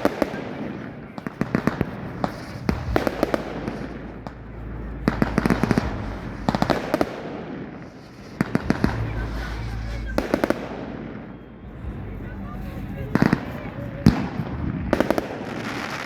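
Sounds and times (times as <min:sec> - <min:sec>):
fireworks cracking and popping: 0:00.0 - 0:16.0
low rumble: 0:01.6 - 0:15.4.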